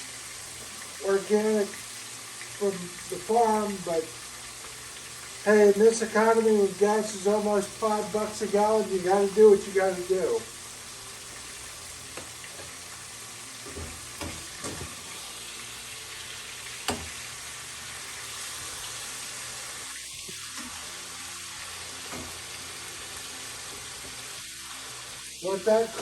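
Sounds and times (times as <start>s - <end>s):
chicken sizzling in a frying pan: 0.0s - 26.0s.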